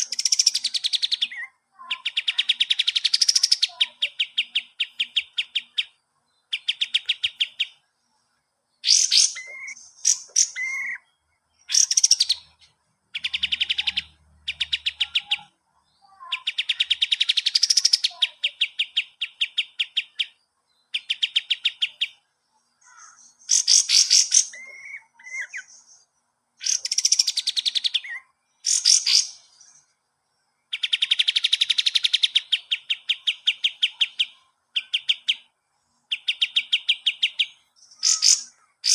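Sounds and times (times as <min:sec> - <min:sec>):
bird singing trills and whistles: 0:00.0 - 0:07.8, 0:08.8 - 0:22.2, 0:22.8 - 0:29.9, 0:30.7 - 0:38.9.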